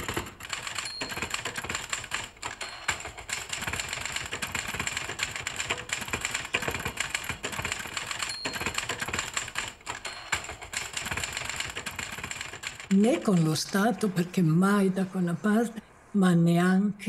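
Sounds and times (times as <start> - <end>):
typewriter clatter: 0.0 - 14.2.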